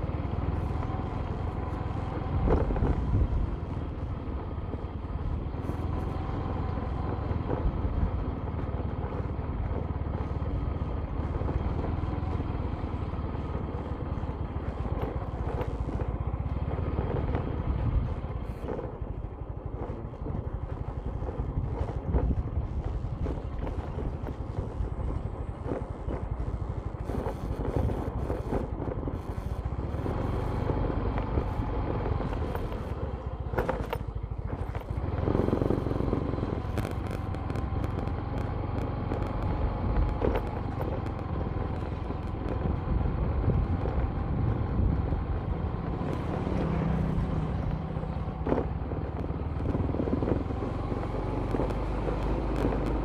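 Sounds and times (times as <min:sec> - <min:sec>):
tyre and road noise: 0:00.0 - 0:53.0
vehicle engine running: 0:00.0 - 0:53.0.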